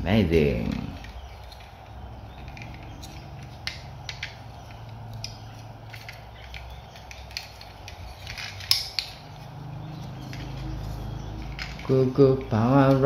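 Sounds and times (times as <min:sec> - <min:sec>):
plastic toy parts clicking: 0:00.5 - 0:13.0.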